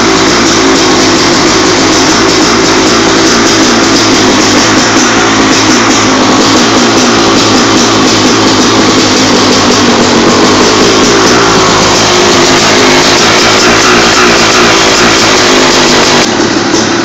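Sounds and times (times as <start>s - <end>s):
two-stroke engine running loudly: 0.0s - 17.0s.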